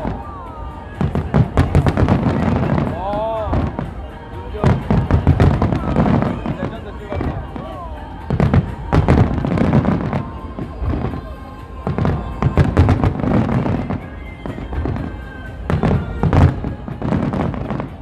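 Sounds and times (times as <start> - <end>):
fireworks booming and cracking: 0.0 - 18.0
music: 0.0 - 18.0.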